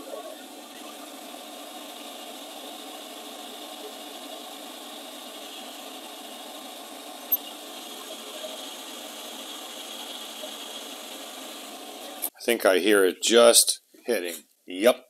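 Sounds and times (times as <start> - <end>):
milling machine spindle running: 0.0 - 12.3.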